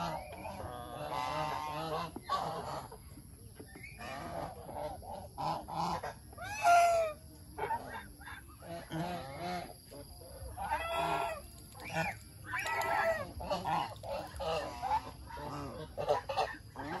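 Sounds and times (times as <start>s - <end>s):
geese honking: 0.0s - 3.0s, 4.0s - 8.0s, 8.6s - 17.0s.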